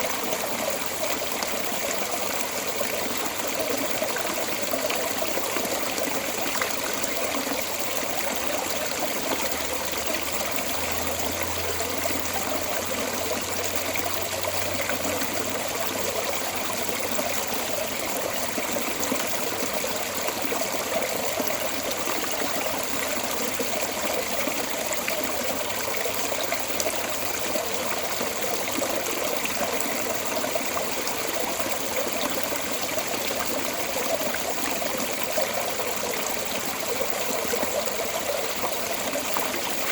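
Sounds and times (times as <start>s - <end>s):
water flowing from a drain: 0.0s - 39.9s.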